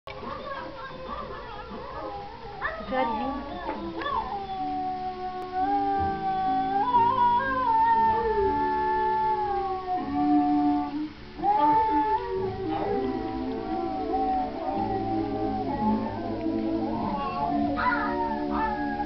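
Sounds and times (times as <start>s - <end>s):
film soundtrack with howling dogs: 0.1s - 19.0s
dog howling: 0.2s - 19.0s.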